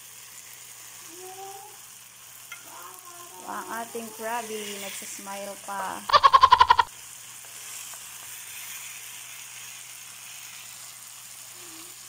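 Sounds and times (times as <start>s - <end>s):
crabs sizzling in oil: 0.0s - 12.0s.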